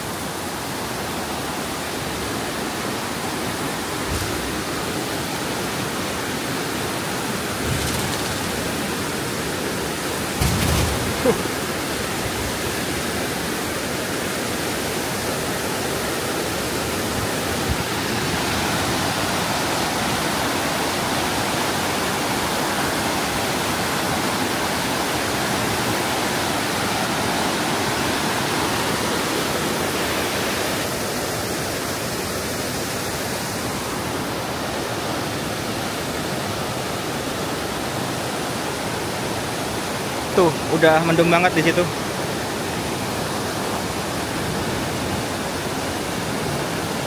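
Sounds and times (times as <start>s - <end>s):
rushing water: 0.0s - 47.0s.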